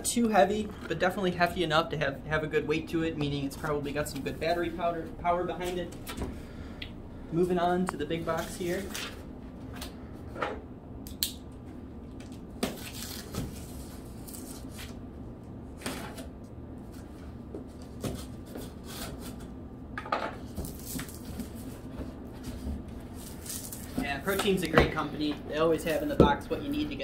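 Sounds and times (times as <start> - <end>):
faint room hum: 0.0 - 27.0.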